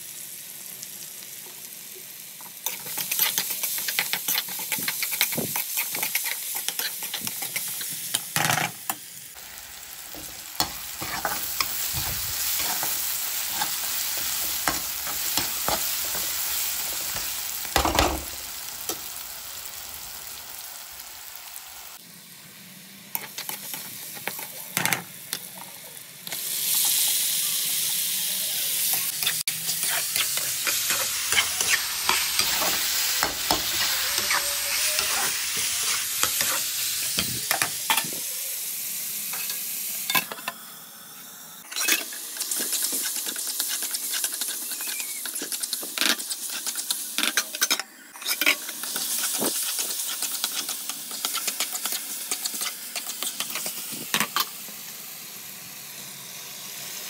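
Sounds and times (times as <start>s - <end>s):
gravy sizzling in a pan: 0.0s - 57.0s.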